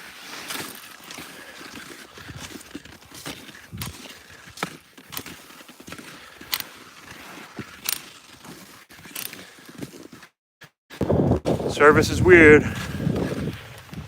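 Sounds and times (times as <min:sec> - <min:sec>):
skis sliding over snow: 0:00.0 - 0:10.3, 0:11.5 - 0:14.0.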